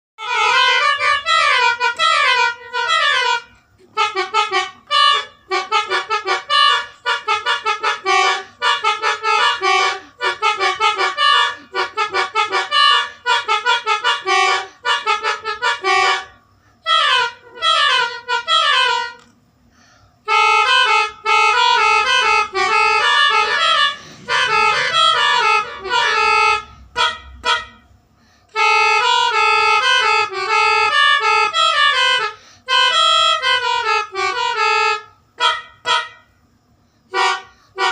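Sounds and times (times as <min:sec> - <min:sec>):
multi-trumpet horn playing tune: 0:00.2 - 0:19.2, 0:20.3 - 0:27.8, 0:28.5 - 0:36.3, 0:37.1 - 0:37.9.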